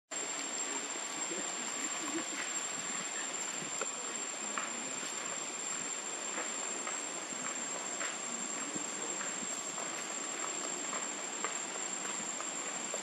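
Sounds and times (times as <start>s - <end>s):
even hiss: 0.1s - 13.0s
faint ticks and rustles: 0.2s - 13.0s.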